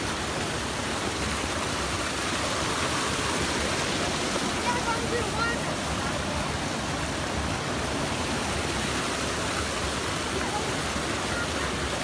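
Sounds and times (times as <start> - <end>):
creek water pouring over rocks: 0.0 - 12.0.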